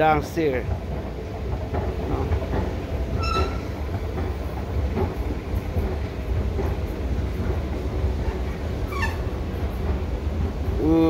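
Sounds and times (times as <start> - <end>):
escalator rumbling: 0.0 - 11.0
escalator steps ticking: 0.0 - 11.0.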